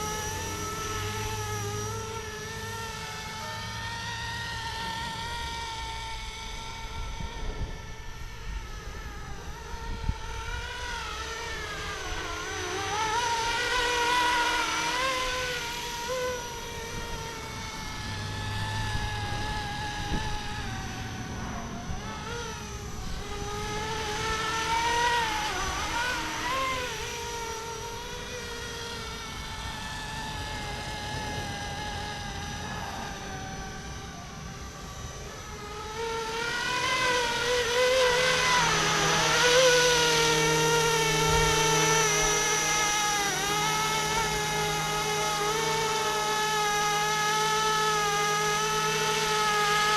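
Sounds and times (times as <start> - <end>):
rc helicopter rotor whine: 0.0 - 49.9.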